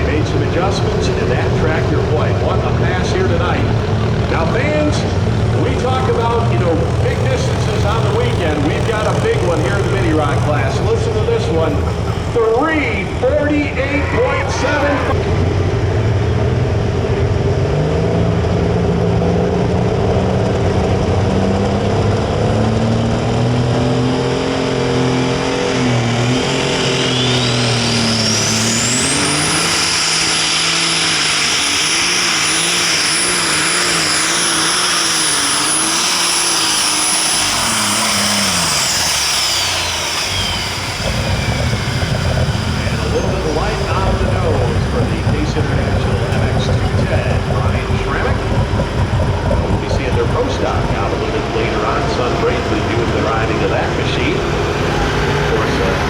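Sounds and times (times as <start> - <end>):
tractor engine at full throttle: 0.0 - 56.0
turbocharger whine: 0.0 - 56.0.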